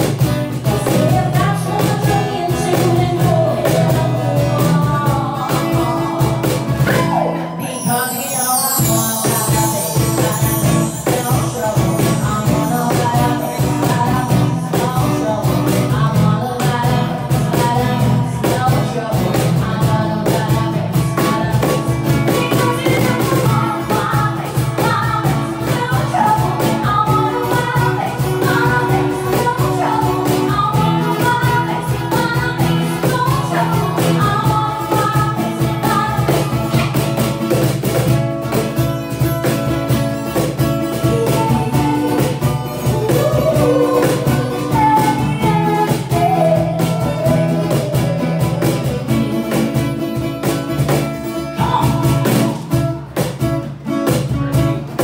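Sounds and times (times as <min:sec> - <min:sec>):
woman singing into microphone: 0:00.0 - 0:37.2, 0:39.1 - 0:53.0
cajon beat: 0:00.0 - 0:55.0
strummed acoustic guitar: 0:00.0 - 0:55.0.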